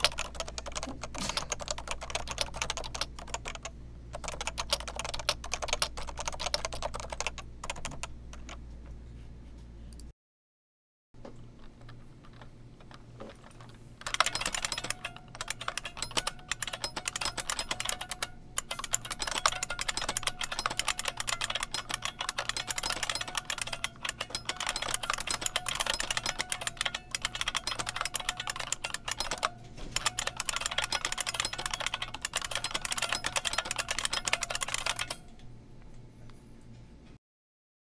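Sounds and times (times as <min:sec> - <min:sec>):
clicky keyboard typing: 0:00.0 - 0:08.6, 0:11.2 - 0:35.5.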